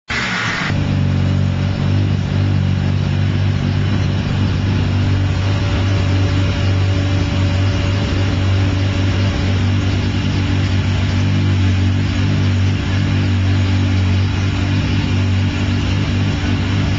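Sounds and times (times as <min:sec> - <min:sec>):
rotary engine idling: 0:00.7 - 0:16.9.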